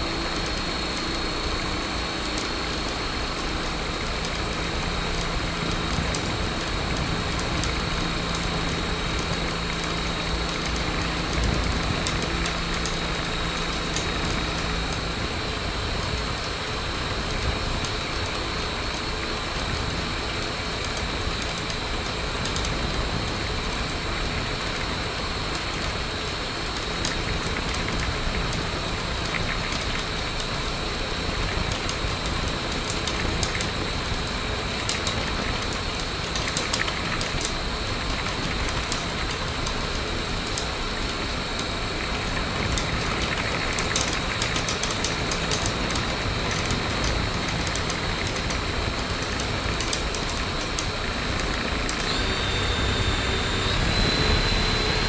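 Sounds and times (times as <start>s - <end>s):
electric motor propeller whine: 0.0s - 55.0s.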